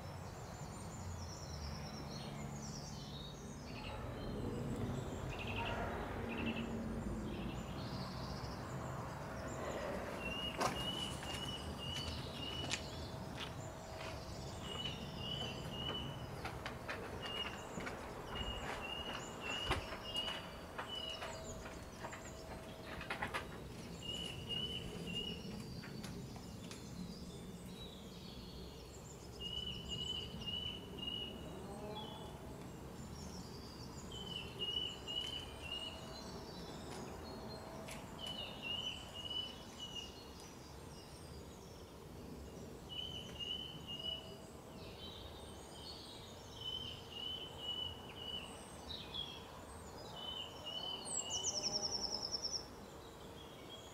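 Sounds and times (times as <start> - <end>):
faint steady background noise: 0.0 - 53.9.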